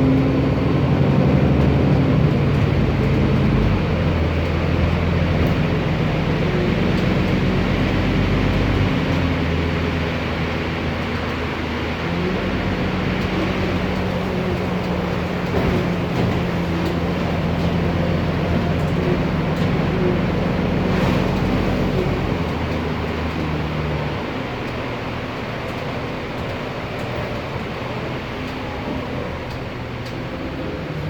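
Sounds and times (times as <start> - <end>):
bus diesel engine humming: 0.0 - 31.0.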